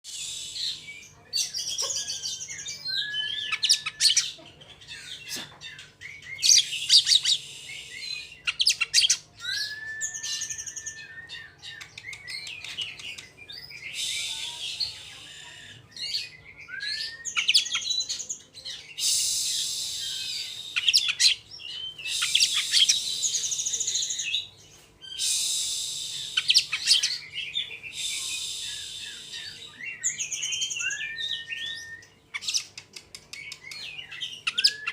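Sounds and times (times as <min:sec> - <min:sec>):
bird singing trills and whistles: 0:00.1 - 0:34.9.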